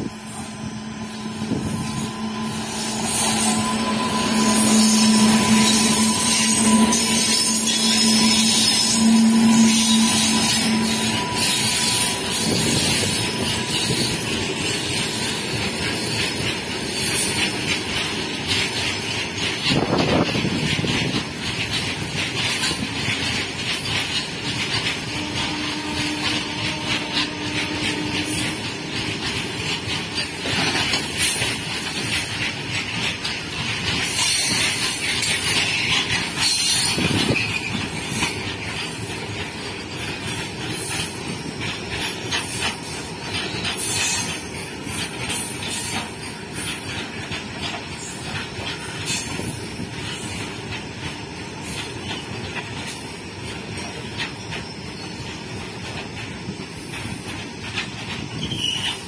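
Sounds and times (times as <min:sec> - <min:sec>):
train wheels rumbling on rail: 0:00.0 - 0:59.0
wheels clicking over rail joints: 0:00.0 - 0:59.0.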